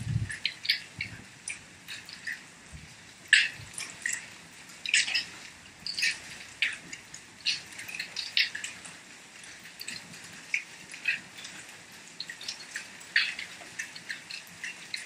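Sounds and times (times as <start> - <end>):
rain hiss: 0.0 - 15.0
rainwater dripping: 0.0 - 15.0.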